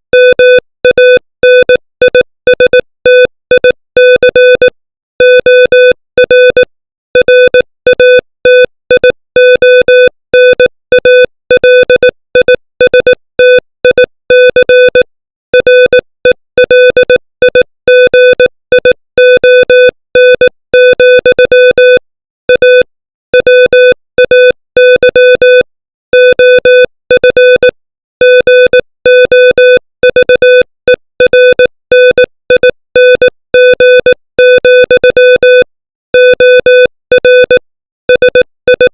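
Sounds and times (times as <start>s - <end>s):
morse code beeps: 0.2s - 38.9s.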